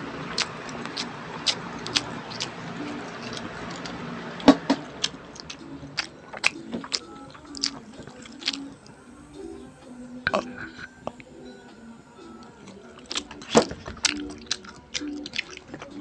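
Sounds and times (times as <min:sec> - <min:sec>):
chewing and lip-smacking: 0:00.2 - 0:16.0
wet mouth clicks: 0:00.3 - 0:09.0, 0:10.3 - 0:11.3, 0:12.4 - 0:16.0.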